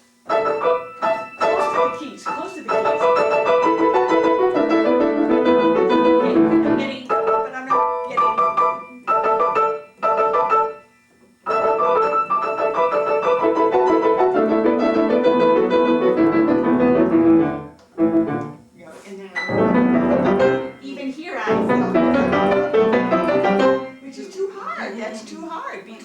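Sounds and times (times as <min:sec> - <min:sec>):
solo piano playing: 0:00.2 - 0:18.7, 0:19.4 - 0:24.1.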